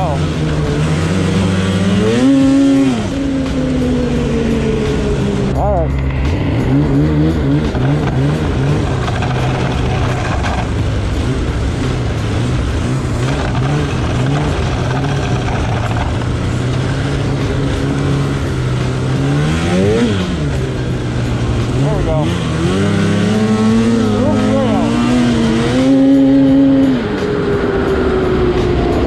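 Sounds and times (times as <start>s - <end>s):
snowmobile engine revving: 0.0s - 27.2s.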